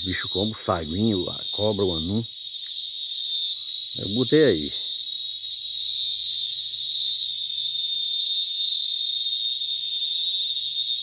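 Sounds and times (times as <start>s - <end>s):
cicadas shrilling: 0.0s - 11.0s.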